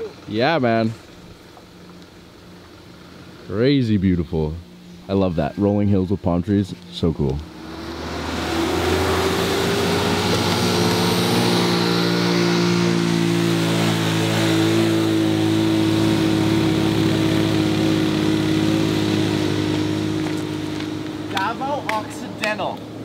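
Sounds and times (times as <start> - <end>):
vehicle engine pulling uphill: 0.0 - 23.0.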